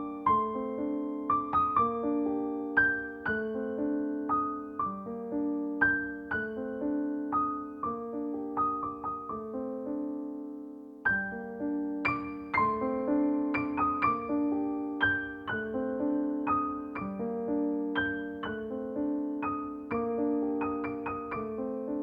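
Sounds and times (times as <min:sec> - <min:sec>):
gentle piano tune: 0:00.0 - 0:22.0.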